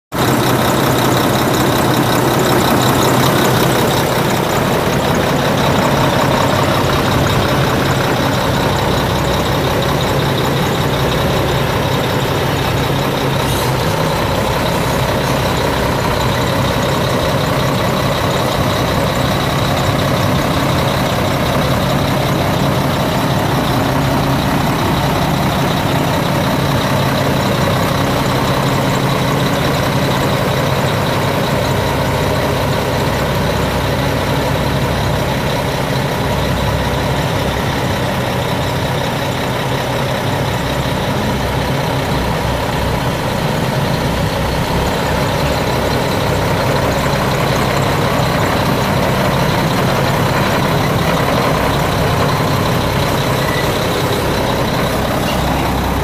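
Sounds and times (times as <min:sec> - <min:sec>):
diesel truck idling: 0:00.1 - 0:56.0.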